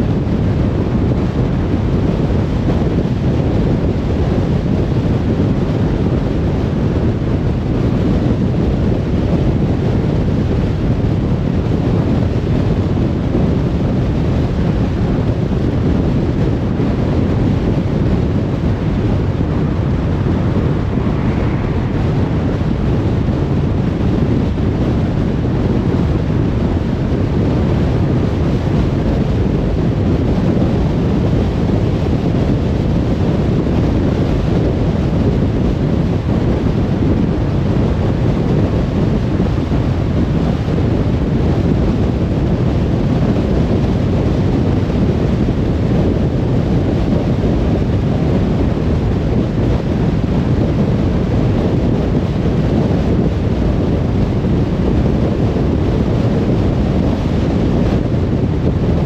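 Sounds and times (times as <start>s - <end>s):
car road noise on motorway: 0.0s - 59.0s.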